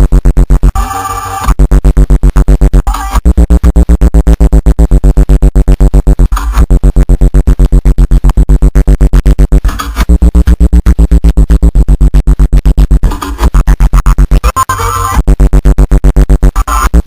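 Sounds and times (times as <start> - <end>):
loud bass-heavy electronic music: 0.0 - 17.0.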